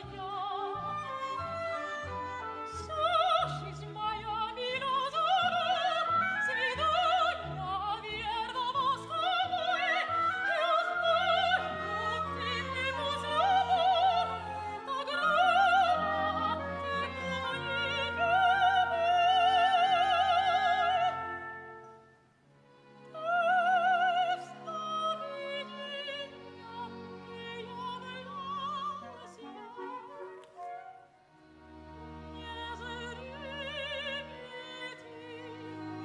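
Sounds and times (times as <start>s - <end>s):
soprano singing with vibrato: 0.0s - 21.9s, 23.1s - 31.1s, 32.2s - 36.0s
orchestra: 0.0s - 36.0s.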